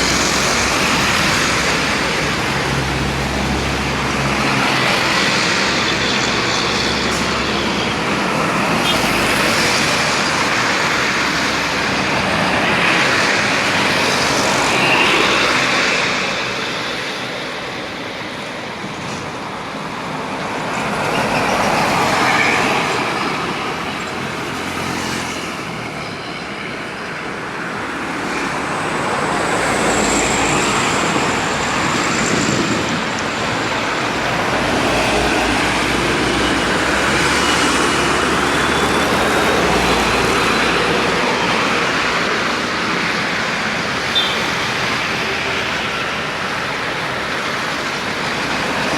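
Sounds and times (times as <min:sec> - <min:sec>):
vehicles passing: 0:00.0 - 0:48.9.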